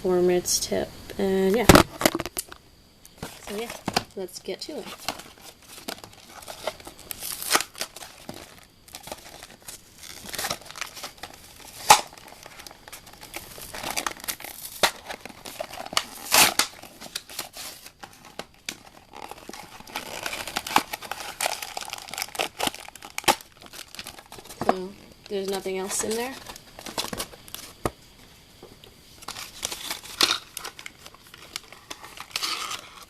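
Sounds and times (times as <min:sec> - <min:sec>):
cardboard box crinkling and tearing: 0:03.2 - 0:04.1, 0:04.8 - 0:27.9, 0:29.2 - 0:33.0.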